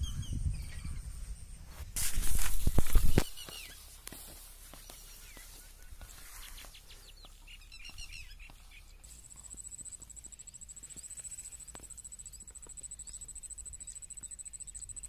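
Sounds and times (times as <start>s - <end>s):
birds chirping: 0.0s - 1.7s, 2.3s - 15.0s
faint scattered clicks: 2.4s - 15.0s.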